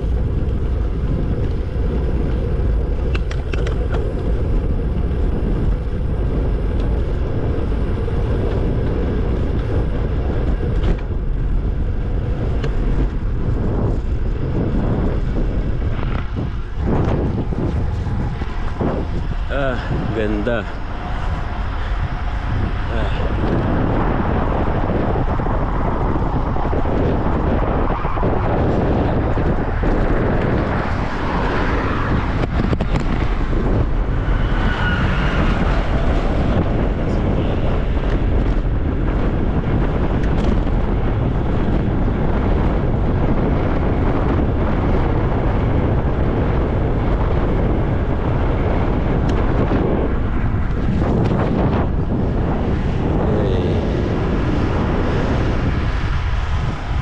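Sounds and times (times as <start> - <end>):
passing vehicles: 0.0 - 57.0
road noise: 0.0 - 57.0
wind rushing over microphone: 0.0 - 57.0.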